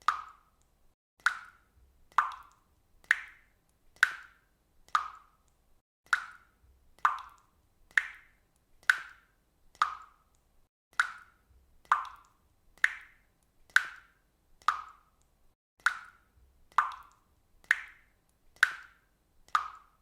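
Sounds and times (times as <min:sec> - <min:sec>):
water dripping: 0:00.0 - 0:20.0.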